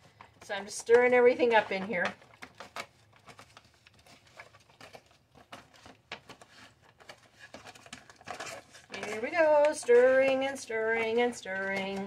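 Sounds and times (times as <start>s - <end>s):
foil bag crinkling: 0.0s - 12.0s.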